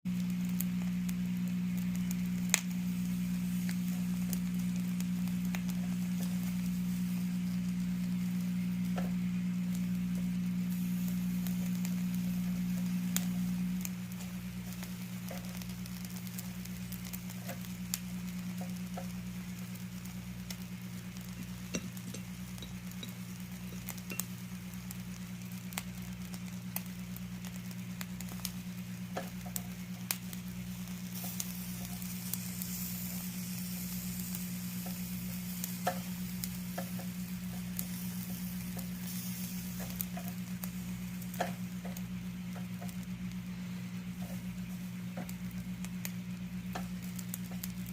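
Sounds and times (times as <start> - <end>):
low hum: 0.1 - 47.9
squid sizzling on grill: 0.1 - 47.9.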